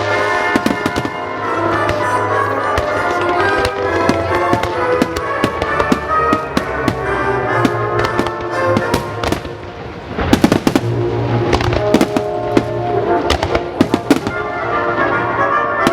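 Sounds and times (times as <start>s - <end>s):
fireworks bangs and crackles: 0.0s - 15.9s
music: 0.0s - 15.9s.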